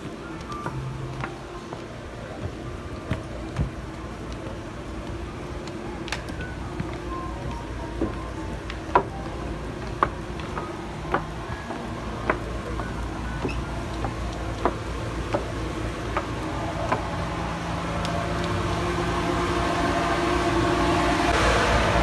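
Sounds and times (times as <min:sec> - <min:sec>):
footsteps on wet wooden dock: 0:00.0 - 0:21.2
steady mechanical hum: 0:00.0 - 0:22.0.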